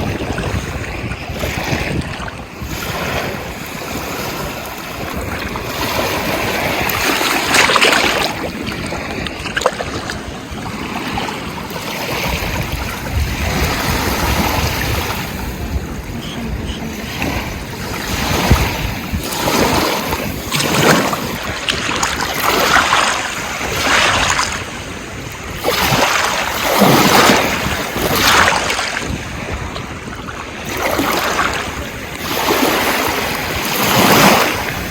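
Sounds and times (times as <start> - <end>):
ocean waves washing in: 0.0 - 34.9
wind rumble on microphone: 0.0 - 34.9.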